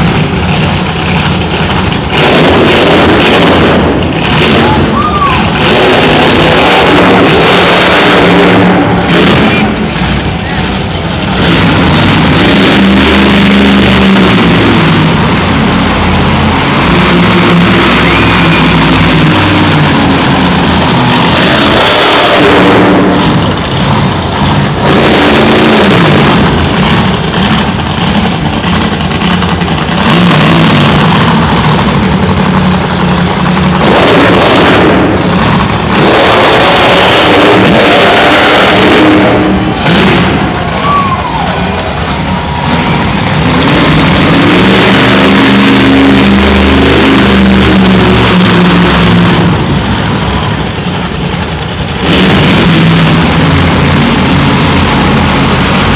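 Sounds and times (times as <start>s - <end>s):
truck engine revving hard: 0.0s - 55.9s.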